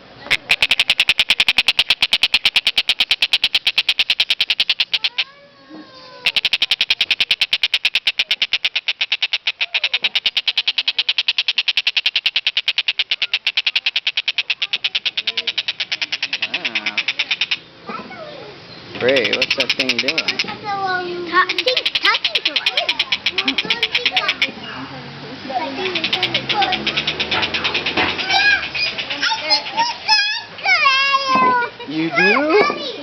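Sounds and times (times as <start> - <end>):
bird calling sharp high notes: 0.2 - 5.3, 6.1 - 17.8, 18.7 - 20.5, 21.3 - 24.6, 25.6 - 31.3.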